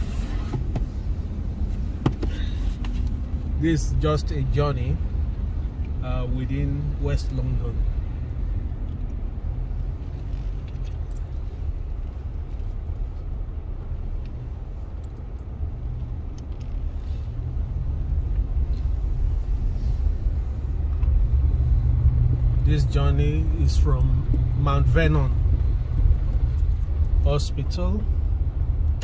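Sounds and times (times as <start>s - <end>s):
car cabin engine and tyre rumble: 0.0s - 29.0s.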